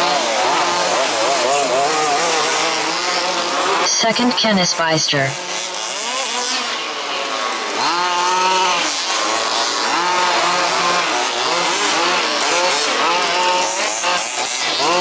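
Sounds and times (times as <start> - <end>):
small engines revving: 0.0 - 3.9, 5.3 - 15.0.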